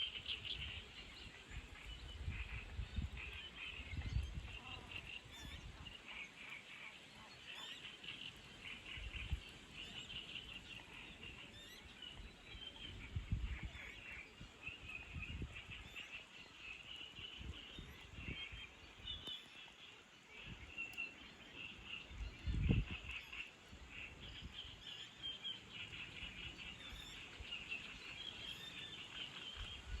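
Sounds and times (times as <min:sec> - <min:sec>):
many birds calling: 0:00.0 - 0:30.0.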